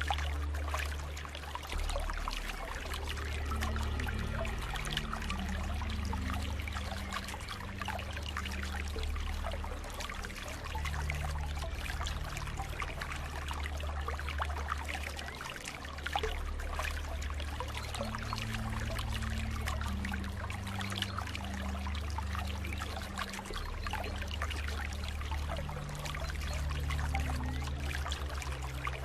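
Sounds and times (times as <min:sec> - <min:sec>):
low hum: 0:00.0 - 0:29.0
water flowing and trickling: 0:00.0 - 0:29.0.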